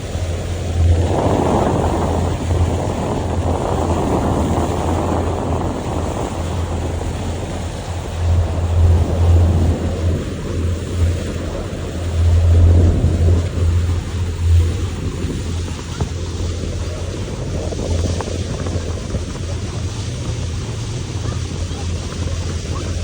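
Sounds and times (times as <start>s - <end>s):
steady low rumble: 0.0s - 23.0s
wind buffeting microphone: 0.0s - 23.0s.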